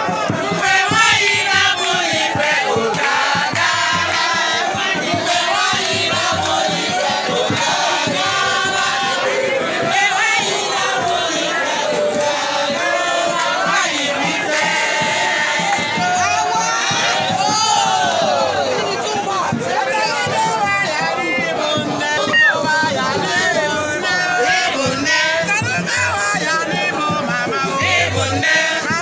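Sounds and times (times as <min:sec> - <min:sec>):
crowd singing and chanting: 0:00.0 - 0:29.0
music: 0:00.0 - 0:29.0.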